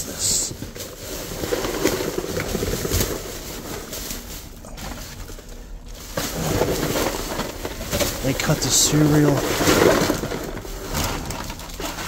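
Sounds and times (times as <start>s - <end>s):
boxes being shifted: 0.0s - 12.0s
plastic trash bags rustling: 0.0s - 12.0s.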